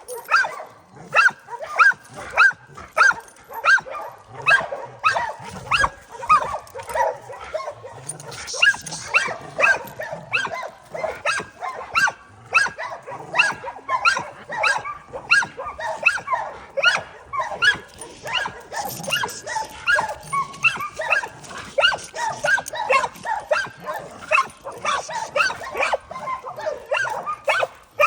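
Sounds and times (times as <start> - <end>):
dogs barking: 0.0 - 28.0.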